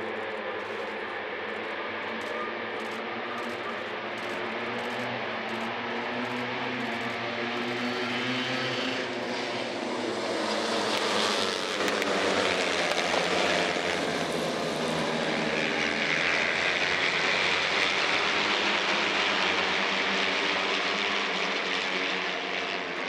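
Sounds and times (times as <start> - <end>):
racing motorcycles at full throttle: 0.0 - 23.0.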